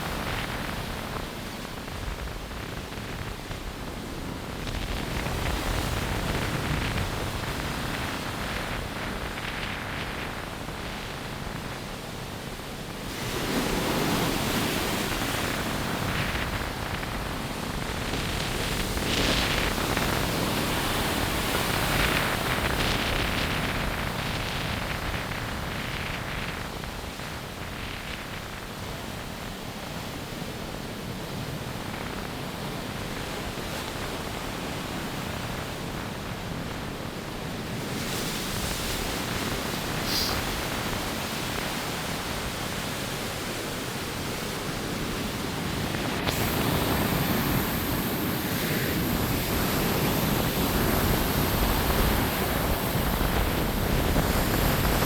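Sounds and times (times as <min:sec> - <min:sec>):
ocean surf washing: 0:00.0 - 0:55.0
wind rushing over microphone: 0:00.0 - 0:55.0.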